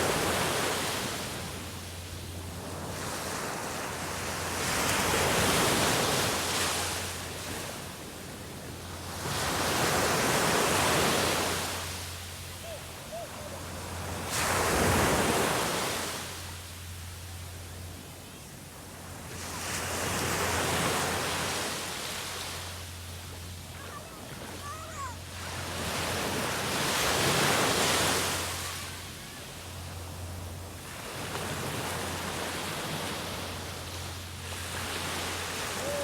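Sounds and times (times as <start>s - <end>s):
sea waves breaking on shore: 0.0s - 18.0s, 18.6s - 36.0s
steady low hum: 0.0s - 36.0s.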